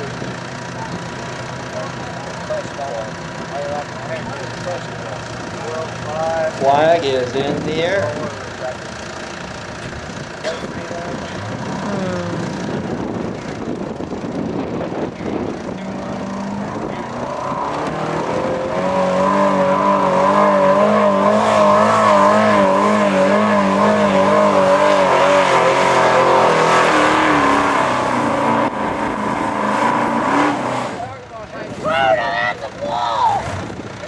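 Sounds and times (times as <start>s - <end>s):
truck engine at high revs: 0.0s - 34.0s.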